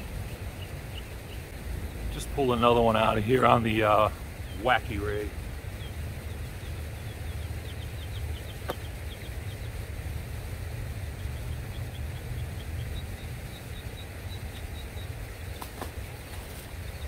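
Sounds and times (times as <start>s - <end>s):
bird chirping rapidly: 0.0s - 17.0s
steady low rumble: 0.0s - 17.0s.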